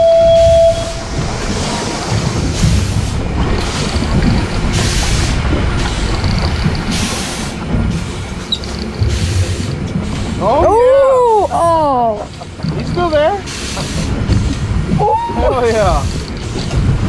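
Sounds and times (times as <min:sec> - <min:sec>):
gusting wind: 0:00.0 - 0:17.0.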